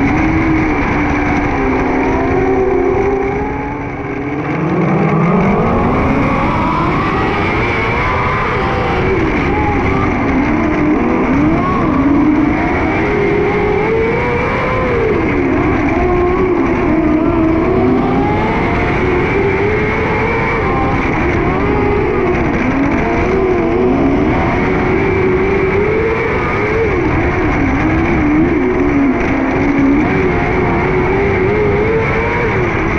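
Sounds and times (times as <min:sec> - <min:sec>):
racing engine revving: 0:00.0 - 0:32.9.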